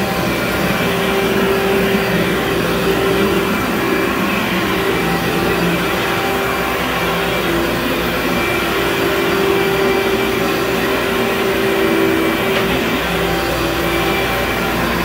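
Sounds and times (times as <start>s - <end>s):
carpet cleaning machine running: 0.0s - 15.0s.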